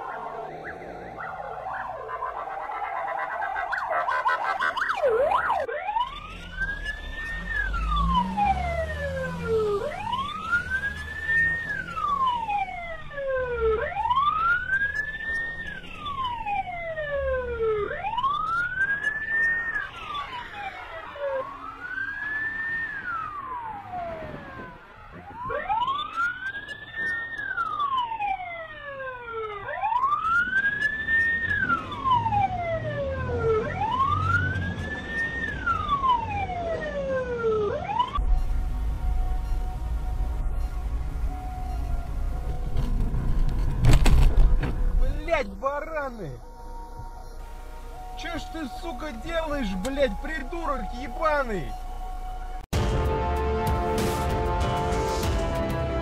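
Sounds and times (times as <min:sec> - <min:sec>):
faint distant siren wails: 0:00.0 - 0:52.7
siren wailing: 0:00.0 - 0:52.9.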